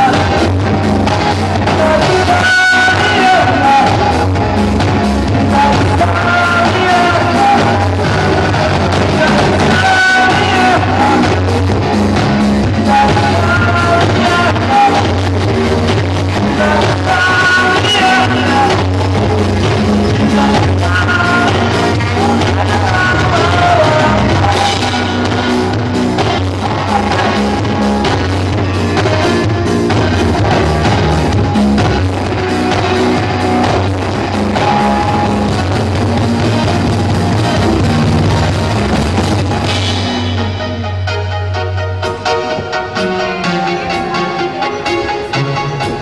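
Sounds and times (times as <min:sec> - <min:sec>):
live pop-rock band playing: 0:00.0 - 0:46.0
person singing: 0:00.0 - 0:46.0.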